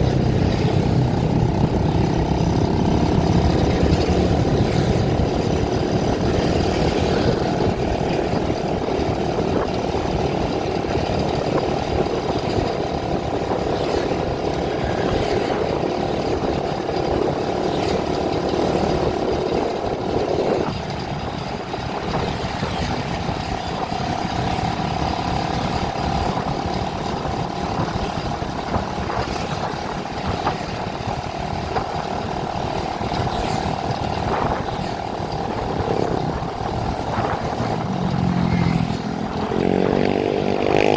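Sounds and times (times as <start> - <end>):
road noise: 0.0 - 40.9
vehicle engine: 0.0 - 40.9.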